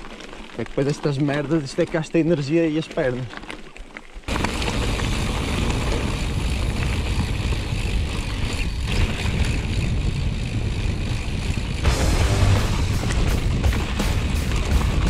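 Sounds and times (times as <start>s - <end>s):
bike tyre rumble: 0.0s - 15.0s.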